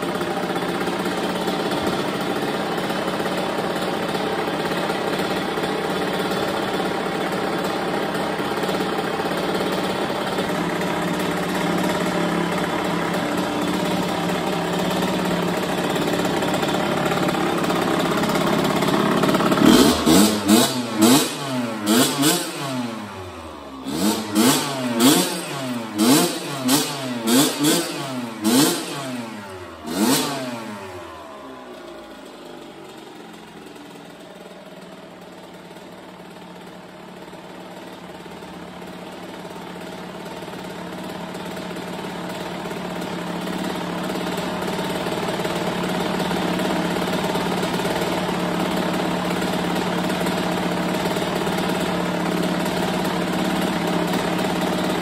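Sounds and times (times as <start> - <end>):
dirt bike engine idling: 0.0 - 55.0.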